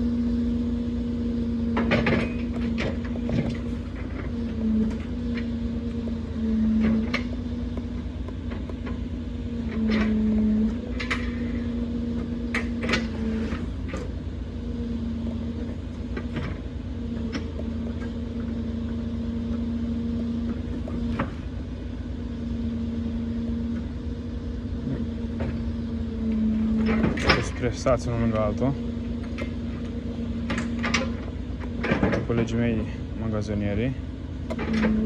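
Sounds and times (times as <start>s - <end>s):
truck engine driving hydraulics: 1.3s - 35.0s.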